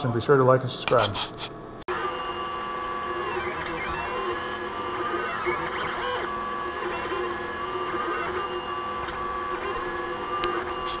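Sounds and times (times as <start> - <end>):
stepper motors whining: 1.9 - 11.0.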